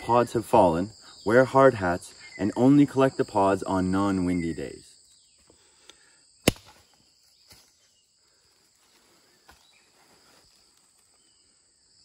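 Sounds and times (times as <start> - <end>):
rainforest insects droning: 0.0 - 12.0.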